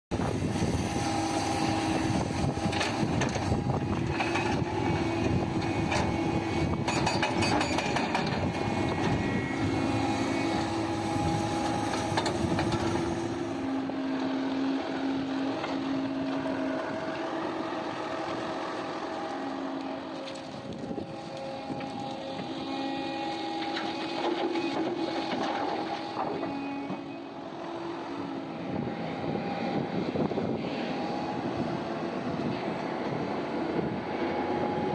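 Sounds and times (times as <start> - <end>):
heavy diesel machinery running: 0.1 - 34.9.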